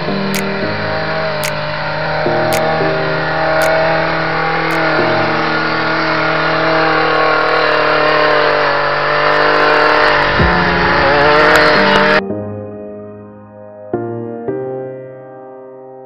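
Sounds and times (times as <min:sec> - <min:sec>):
background music sustained chords: 0:00.0 - 0:07.8, 0:09.0 - 0:16.0.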